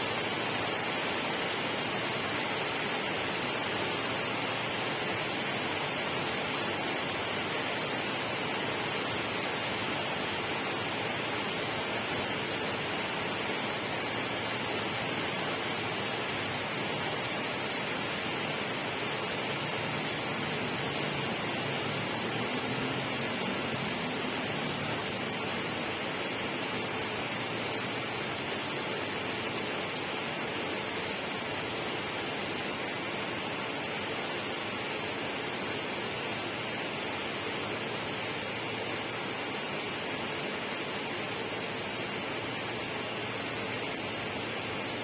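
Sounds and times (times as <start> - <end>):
steady rushing hiss: 0.0 - 45.0.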